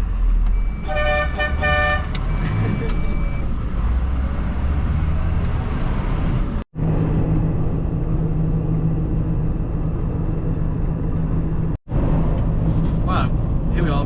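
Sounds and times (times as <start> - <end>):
diesel truck engine: 0.0 - 14.0.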